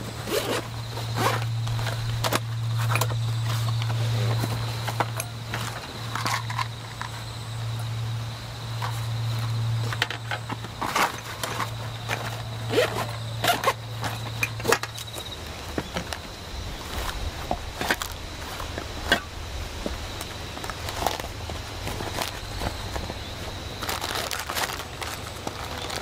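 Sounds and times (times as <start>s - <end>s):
low steady hum: 0.0s - 26.0s
fabric pouch rustling and clicking: 0.1s - 7.2s, 8.8s - 26.0s.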